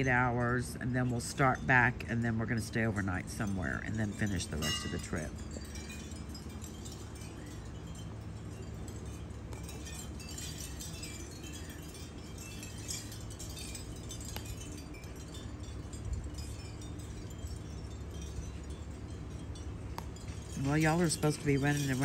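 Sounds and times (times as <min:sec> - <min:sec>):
low steady hum: 0:00.0 - 0:22.0
wind chimes tinkling: 0:00.0 - 0:22.0.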